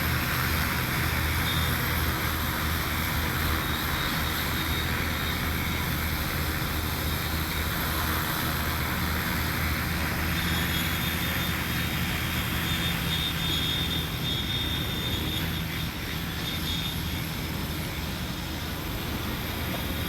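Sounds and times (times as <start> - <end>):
drone propellers humming: 0.0 - 20.0
high motor whine: 0.0 - 20.0.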